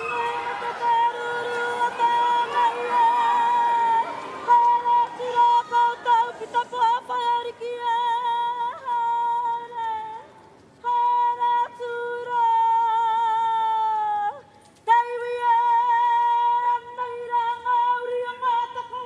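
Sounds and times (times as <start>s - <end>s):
woman's high-pitched ceremonial call: 0.0s - 19.0s.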